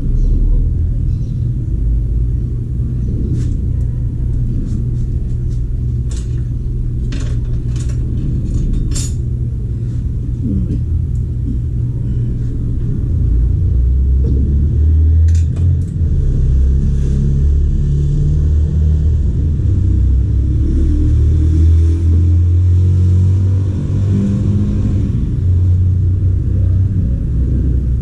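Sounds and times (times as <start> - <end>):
loud low rumble: 0.0 - 28.0.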